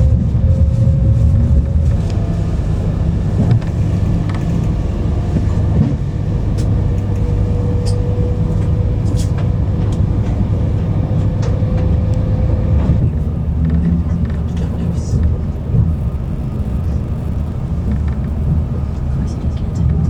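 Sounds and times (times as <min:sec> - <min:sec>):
faint steady whine: 0:00.0 - 0:20.0
train rumbling inside carriage: 0:00.0 - 0:20.0.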